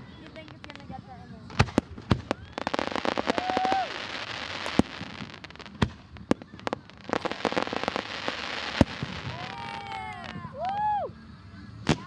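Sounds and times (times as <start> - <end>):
firework whistling: 0.0 - 12.0
fireworks crackling: 0.0 - 12.0
fireworks bangs and pops: 0.1 - 10.9.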